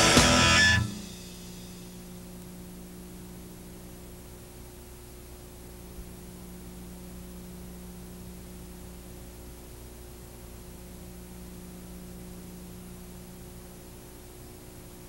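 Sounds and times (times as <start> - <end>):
low mains hum: 0.0 - 15.0
tape hiss: 0.0 - 15.0.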